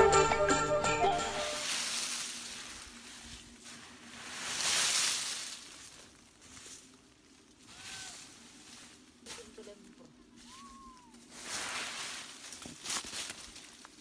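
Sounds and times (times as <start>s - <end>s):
leafy branches rustling: 1.2s - 14.0s.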